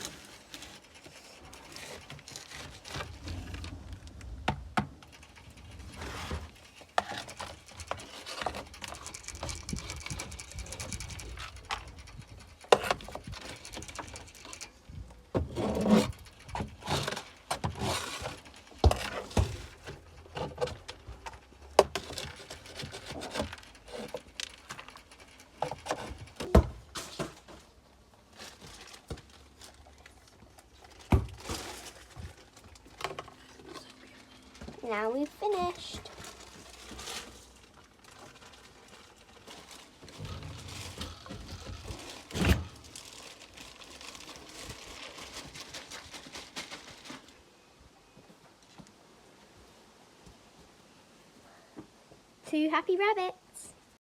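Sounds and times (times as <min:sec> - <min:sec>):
rustling and scraping: 0:00.0 - 0:50.6.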